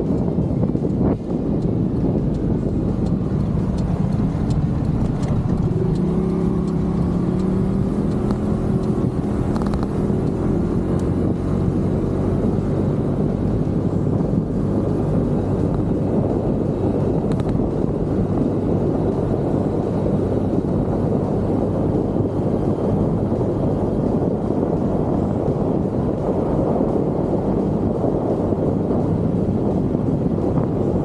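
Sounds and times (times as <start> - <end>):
scooter engine running: 0.0 - 31.0
wind rushing on microphone: 0.0 - 31.0.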